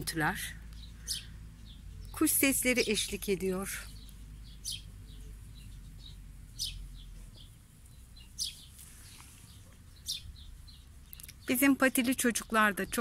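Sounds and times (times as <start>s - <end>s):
wild birds chirping: 0.0s - 13.0s.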